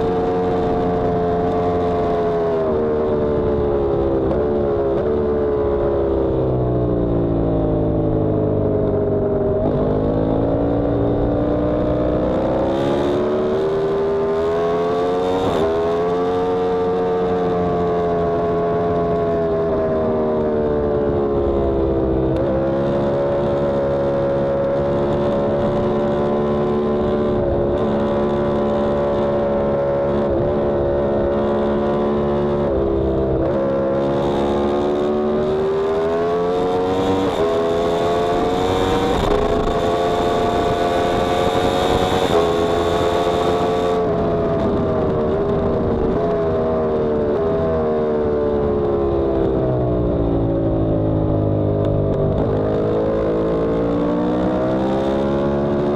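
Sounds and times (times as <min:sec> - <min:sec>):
wind noise: 0:00.0 - 0:55.9
motorcycle engine revving: 0:09.3 - 0:55.9.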